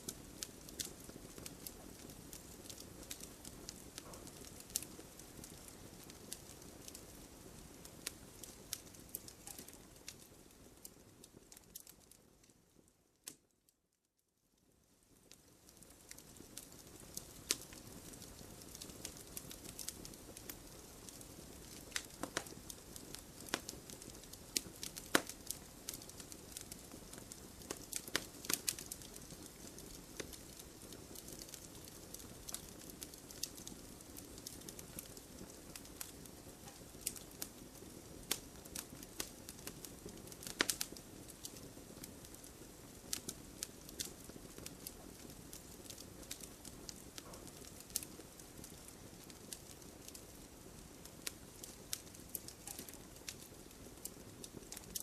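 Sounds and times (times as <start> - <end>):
campfire crackling and popping: 0.0 - 13.5, 15.1 - 55.0.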